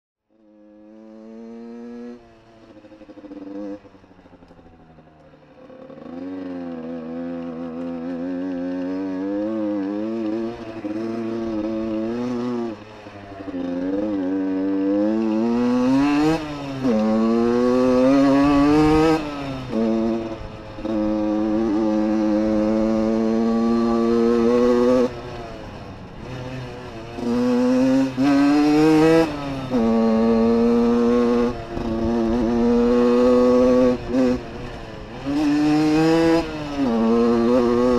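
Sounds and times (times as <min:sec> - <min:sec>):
dirt bike engine revving: 0:00.4 - 0:04.6, 0:05.6 - 0:37.9.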